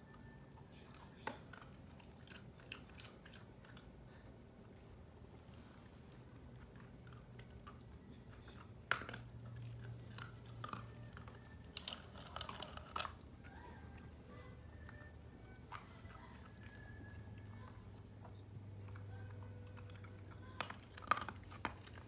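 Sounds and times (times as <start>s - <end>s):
faint low hum: 0.0s - 22.0s
dog crunching dry kibble: 0.6s - 5.3s, 6.0s - 22.0s.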